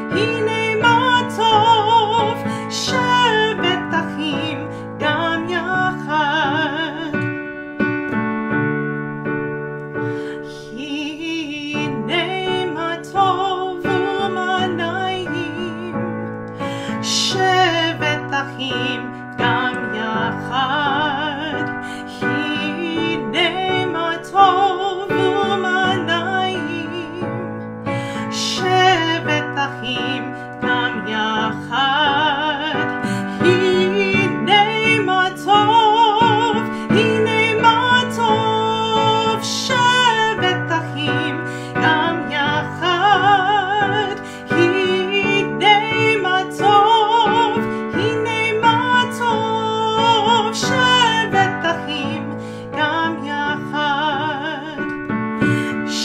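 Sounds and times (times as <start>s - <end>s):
woman singing with vibrato: 0.0s - 7.3s, 10.4s - 56.0s
piano accompaniment: 0.0s - 56.0s.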